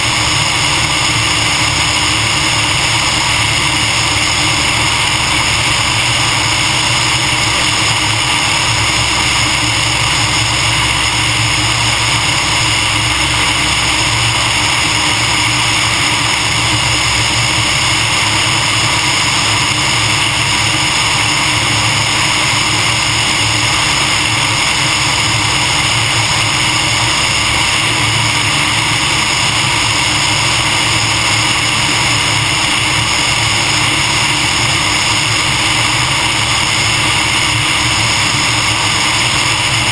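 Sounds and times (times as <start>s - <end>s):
aircraft engine running: 0.0s - 39.9s
airflow rushing: 0.0s - 39.9s.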